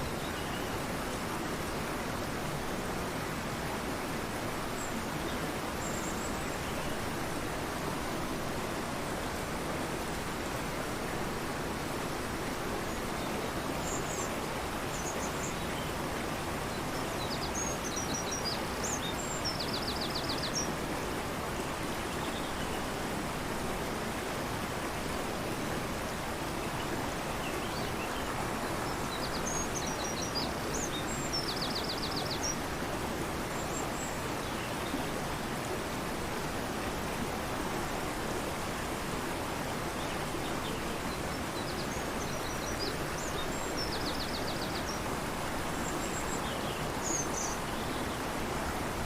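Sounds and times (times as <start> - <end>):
river rushing: 0.0 - 49.0.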